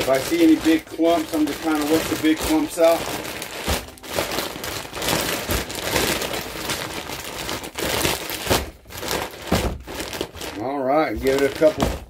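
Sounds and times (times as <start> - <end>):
grain shifting in bag: 0.0 - 12.0
plastic bag crinkling: 0.0 - 12.0.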